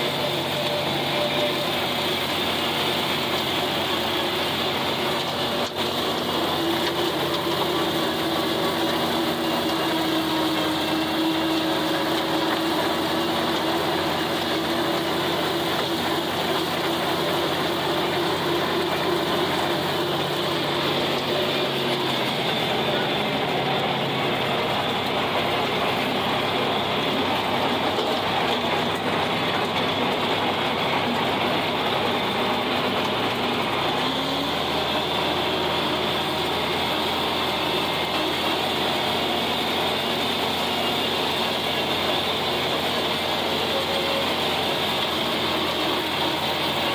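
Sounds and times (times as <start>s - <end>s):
tractor engine running under load: 0.0s - 46.9s.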